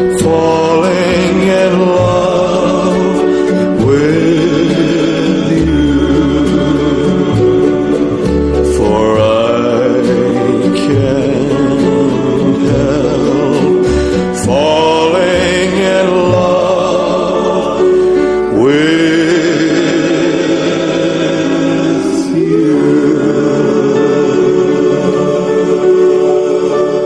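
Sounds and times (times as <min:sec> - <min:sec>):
choir singing slow song: 0:00.0 - 0:27.0.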